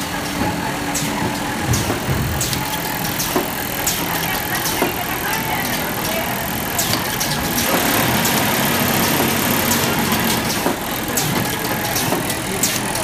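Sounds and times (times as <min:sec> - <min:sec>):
machinery hum: 0:00.0 - 0:13.0
sharp clicks and clatter: 0:01.7 - 0:13.0.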